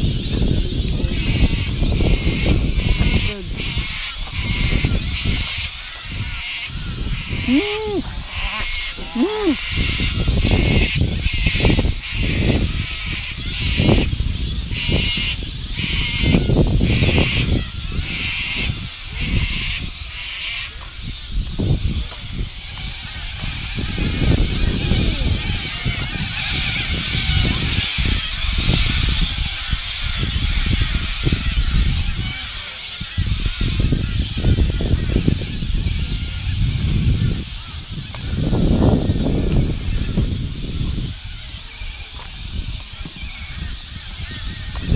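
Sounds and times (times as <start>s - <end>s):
birds calling: 0.0s - 44.9s
wind buffeting microphone: 0.0s - 44.9s.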